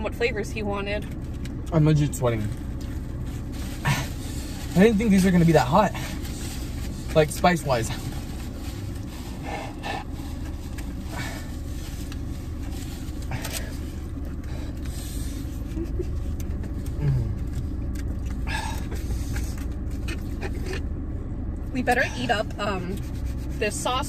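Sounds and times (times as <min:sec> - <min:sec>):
car idling from inside cabin: 0:00.0 - 0:24.0.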